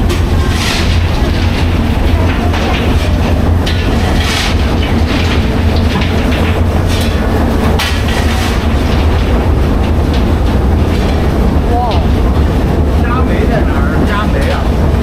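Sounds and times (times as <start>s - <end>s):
steamship engine rumble: 0.0s - 15.0s.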